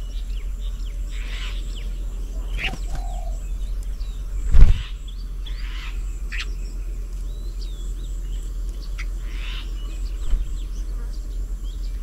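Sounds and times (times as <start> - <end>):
birds chirping and whistling: 0.0 - 12.0
steady low rumble: 0.0 - 12.0.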